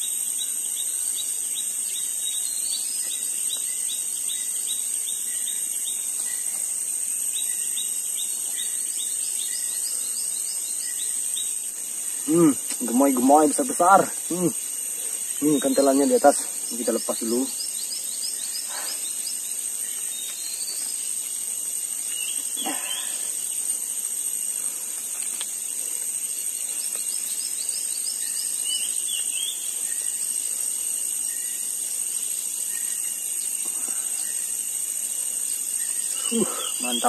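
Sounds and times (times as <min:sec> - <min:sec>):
insects chorus: 0:00.0 - 0:37.0.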